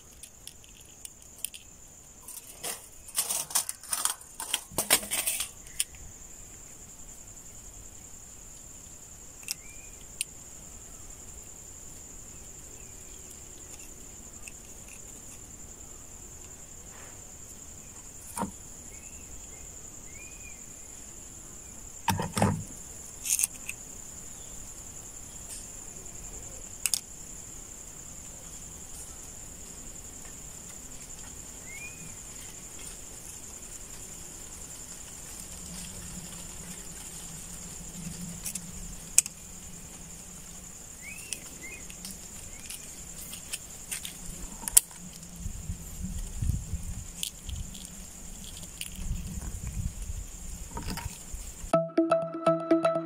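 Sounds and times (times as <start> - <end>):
insects droning: 0.0 - 51.8.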